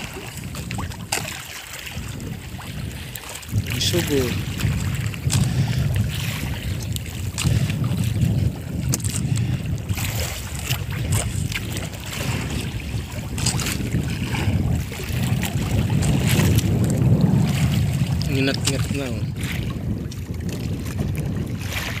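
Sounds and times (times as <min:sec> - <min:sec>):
water washing around boat: 0:00.0 - 0:22.0
wind buffeting microphone: 0:00.0 - 0:22.0.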